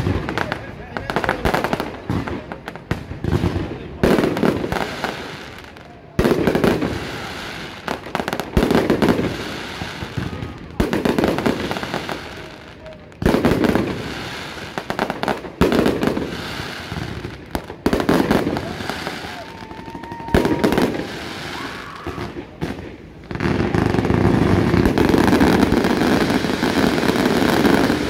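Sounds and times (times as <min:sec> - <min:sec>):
fireworks blasts with crackle: 0:00.0 - 0:28.0.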